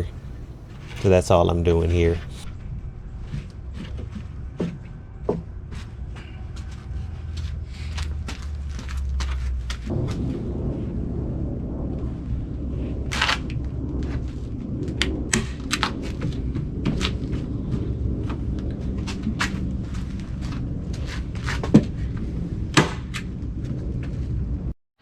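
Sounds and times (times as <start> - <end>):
low rumble: 0.0 - 9.0, 9.8 - 24.7.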